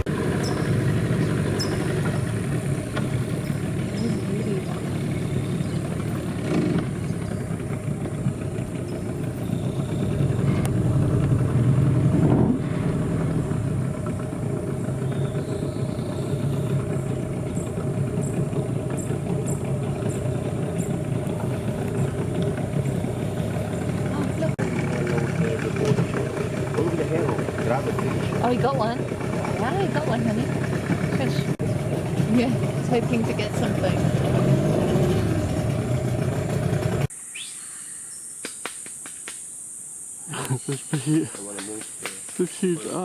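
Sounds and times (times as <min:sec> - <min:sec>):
boat motor running: 0:00.0 - 0:37.1.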